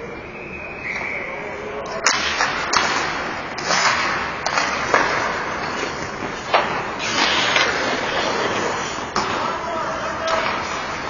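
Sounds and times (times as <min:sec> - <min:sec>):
hockey sticks and puck clacking: 0:01.8 - 0:11.0
skate blades scraping ice: 0:02.1 - 0:11.0.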